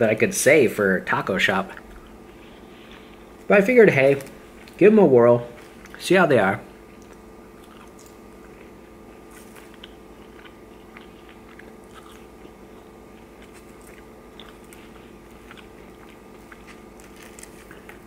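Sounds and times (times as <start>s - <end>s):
steady hum: 0.0s - 18.0s
person chewing fries: 1.6s - 4.8s, 5.4s - 6.0s, 6.7s - 18.0s.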